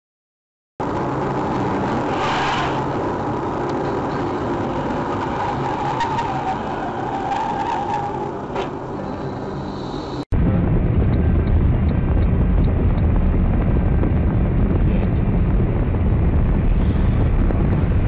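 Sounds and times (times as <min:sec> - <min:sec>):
car engine and tyre noise: 0:00.8 - 0:18.0.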